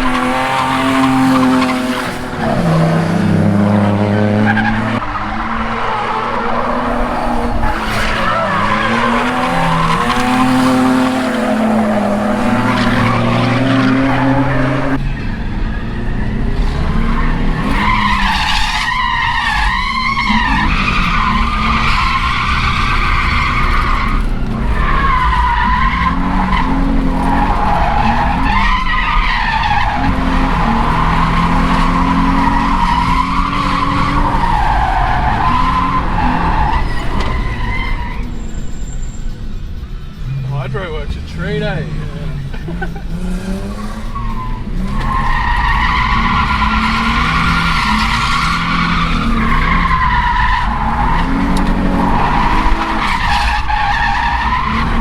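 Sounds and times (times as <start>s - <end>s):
car engine revving high: 0.0s - 37.6s, 40.2s - 55.0s
tyre squeal: 0.0s - 55.0s.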